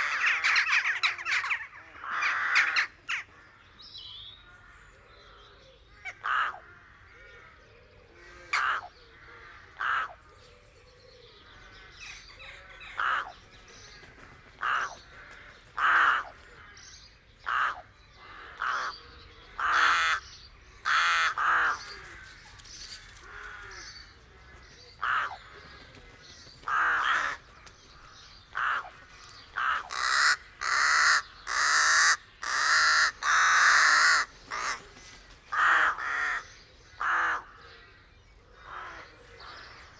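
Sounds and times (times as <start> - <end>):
rooks cawing: 0.0 - 3.7, 4.4 - 10.4, 11.6 - 39.9
soft muttering bird calls: 0.0 - 39.9.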